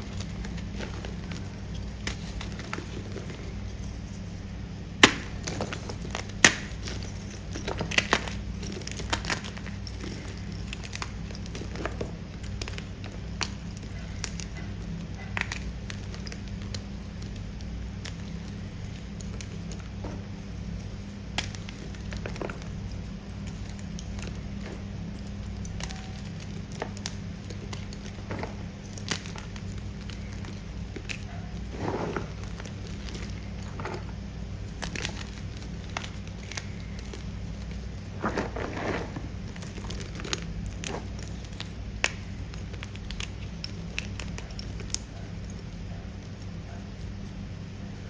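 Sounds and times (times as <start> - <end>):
crunchy chewing: 0.0 - 47.4
steady low hum: 0.0 - 48.0.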